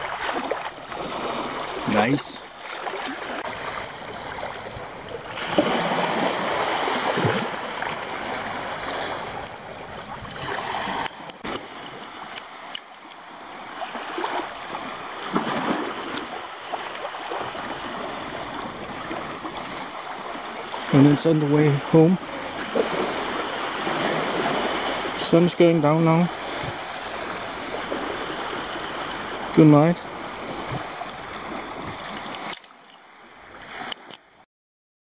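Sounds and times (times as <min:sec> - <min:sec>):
waves washing onto beach: 0:00.0 - 0:34.4.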